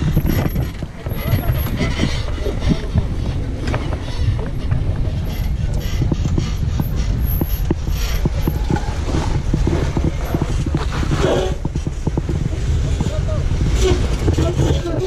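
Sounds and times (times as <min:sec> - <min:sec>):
off-road vehicle engine rumble: 0:00.0 - 0:15.0
suspension knocks and creaks: 0:00.0 - 0:15.0.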